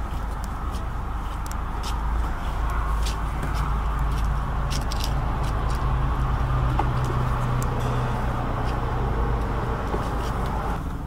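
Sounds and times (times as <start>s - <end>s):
car idling: 0.0s - 11.0s.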